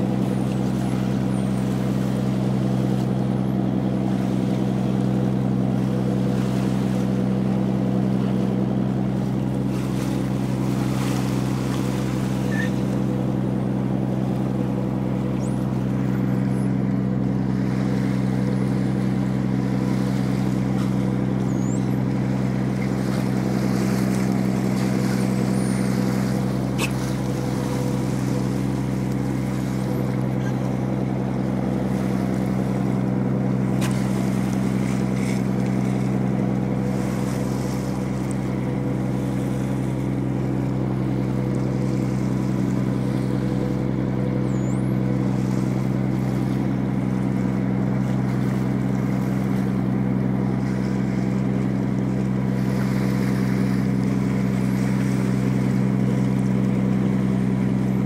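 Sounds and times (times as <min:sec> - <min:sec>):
diesel engine humming: 0:00.0 - 0:58.0
water rushing along hull: 0:00.0 - 0:58.0.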